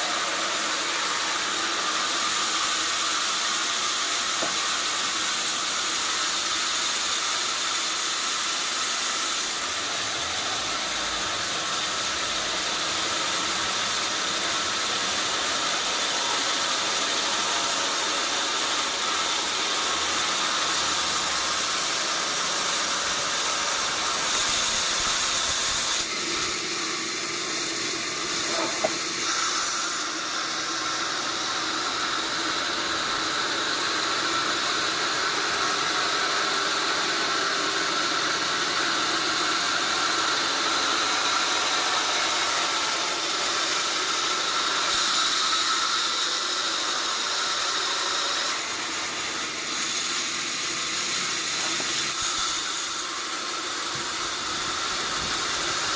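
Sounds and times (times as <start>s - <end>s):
band saw cutting a log: 0.0s - 55.9s.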